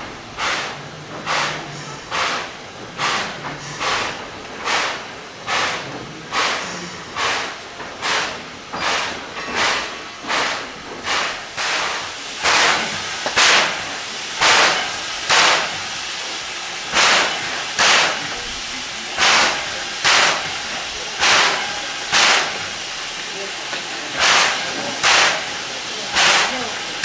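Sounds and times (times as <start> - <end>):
steam locomotive steam bursts: 0.0 - 27.0.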